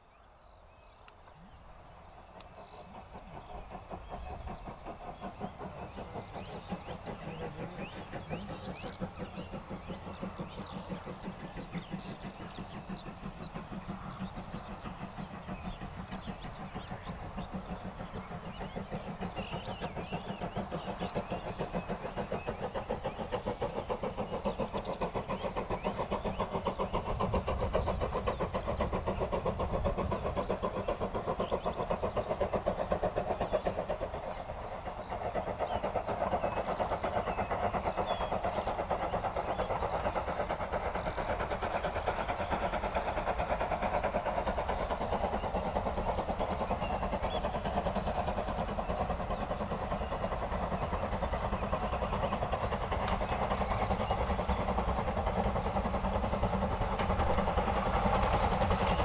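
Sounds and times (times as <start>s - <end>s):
birds singing: 0.0s - 59.0s
steam locomotive exhaust beats: 0.0s - 59.0s.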